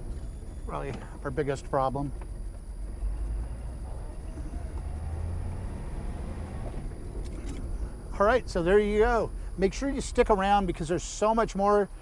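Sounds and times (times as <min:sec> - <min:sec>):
car exhaust rumble: 0:00.0 - 0:12.0.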